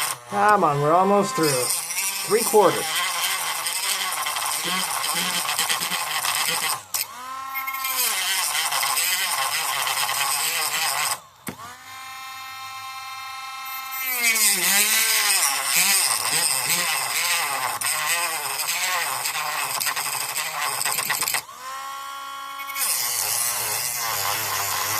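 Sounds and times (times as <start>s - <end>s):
rotary tool cutting plastic: 0.0s - 24.9s.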